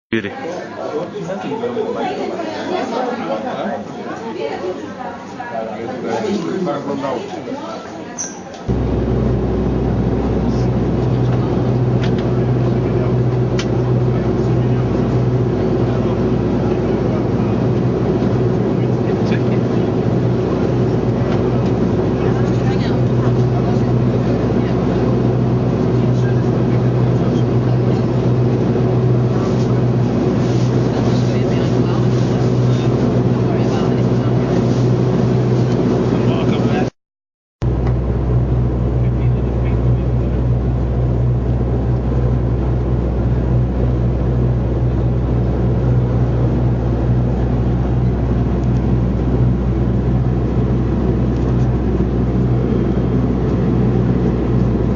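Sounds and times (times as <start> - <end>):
airplane cabin drone: 8.6 - 36.9, 37.6 - 54.9.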